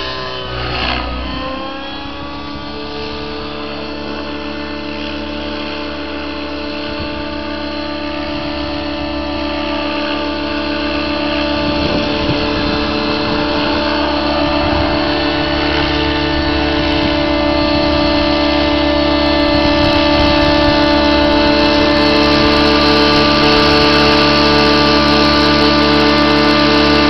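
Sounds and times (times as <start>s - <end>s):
model helicopter rotor whine: 0.0s - 27.0s.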